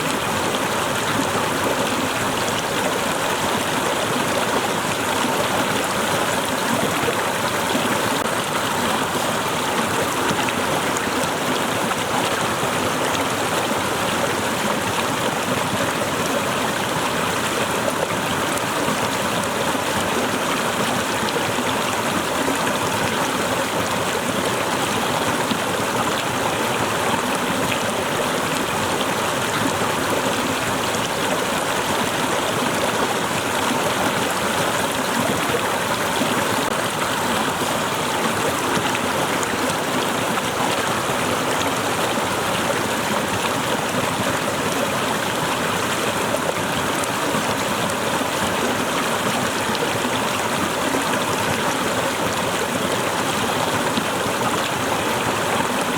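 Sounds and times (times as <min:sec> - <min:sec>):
small waterfall splashing: 0:00.0 - 0:55.9.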